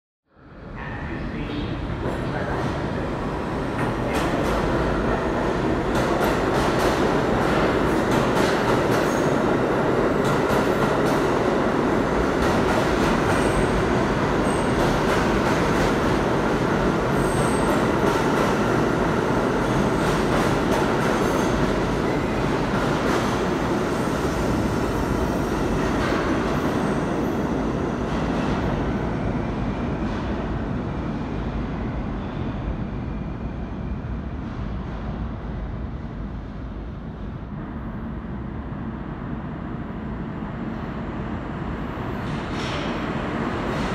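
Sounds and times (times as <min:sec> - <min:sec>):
subway train rolling rumble: 0:00.3 - 0:43.9.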